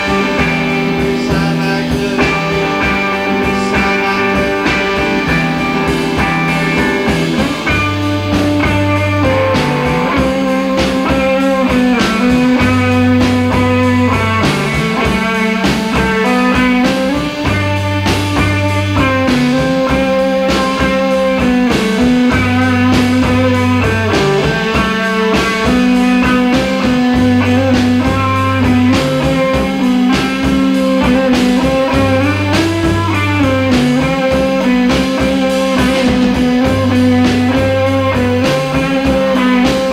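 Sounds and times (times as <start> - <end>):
electric guitar: 0.0 - 39.9
repeating bass line: 0.0 - 39.9
steady drum beat: 0.0 - 39.9.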